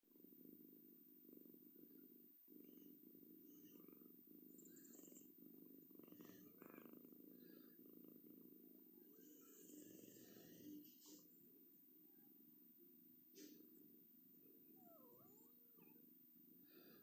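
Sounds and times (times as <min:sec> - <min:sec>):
cat purring: 0:00.1 - 0:17.0.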